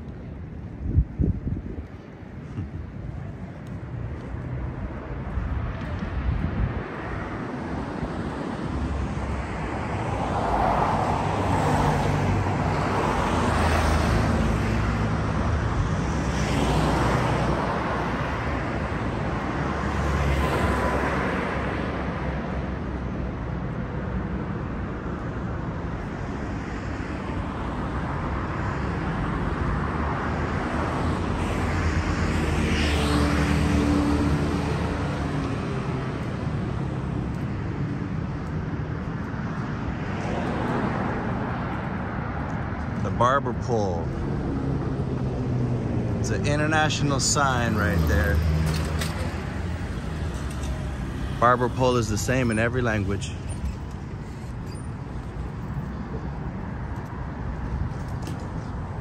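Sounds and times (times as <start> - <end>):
cars passing: 0.0 - 59.0
low traffic rumble: 0.0 - 59.0.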